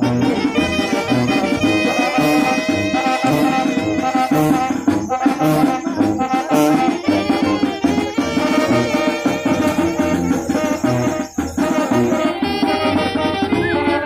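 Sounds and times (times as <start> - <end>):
drum set beat: 0.0 - 14.0
saxophone and trumpets melody: 0.0 - 14.0
sousaphone bass line: 0.0 - 14.0.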